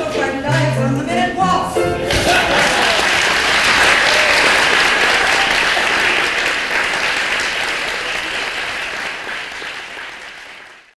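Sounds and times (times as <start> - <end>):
audience applauding: 2.1 - 10.9.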